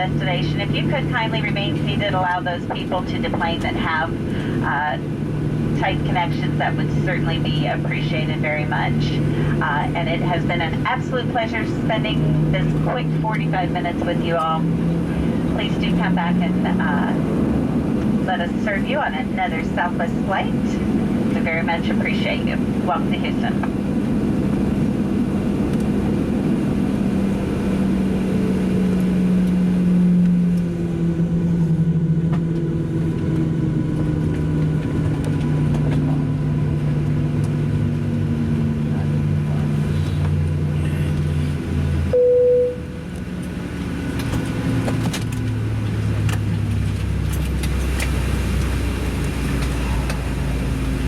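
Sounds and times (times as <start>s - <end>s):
jet engines winding down: 0.0s - 42.2s, 42.8s - 51.0s.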